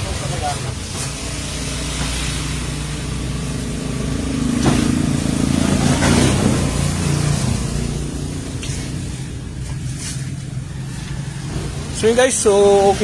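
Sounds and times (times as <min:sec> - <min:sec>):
low motor hum: 0:01.2 - 0:12.0.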